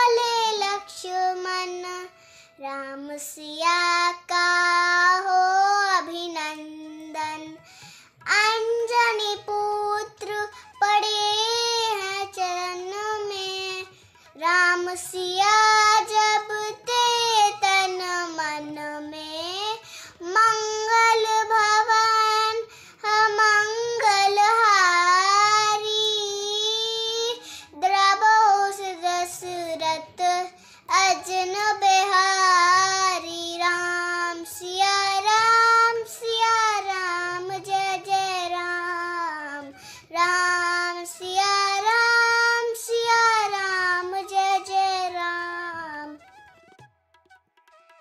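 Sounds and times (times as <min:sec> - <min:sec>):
girl singing devotional song: 0:00.0 - 0:46.4.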